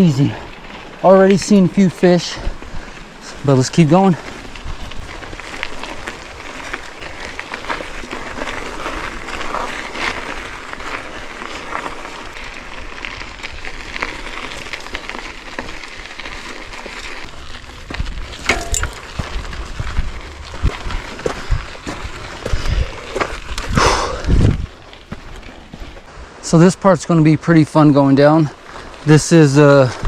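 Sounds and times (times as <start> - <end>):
bike tyres crunching over stones: 0.0 - 30.0.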